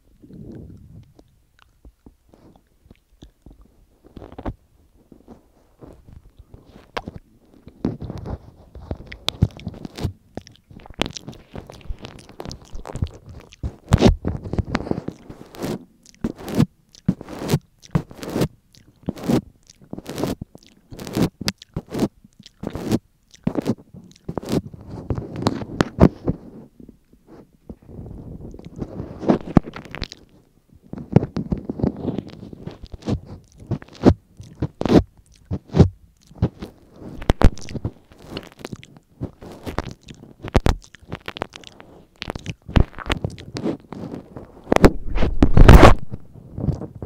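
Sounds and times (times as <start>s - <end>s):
sharp mouth clicks: 0.1s - 4.4s, 6.3s - 26.1s, 28.4s - 30.4s, 31.0s - 46.9s
wet licking and lip smacking: 0.1s - 4.4s, 6.3s - 26.0s, 28.4s - 44.8s.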